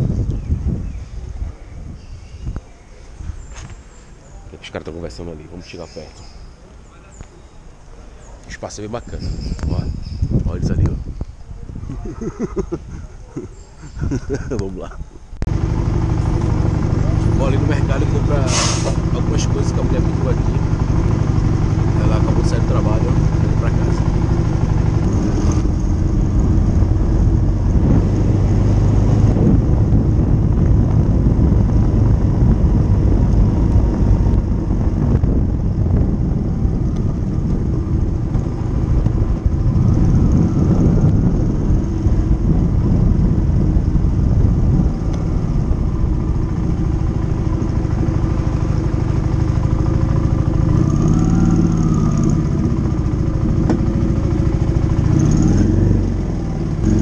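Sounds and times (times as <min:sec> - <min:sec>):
motorcycle engine rumble: 0:00.0 - 0:57.0
road noise: 0:00.0 - 0:57.0.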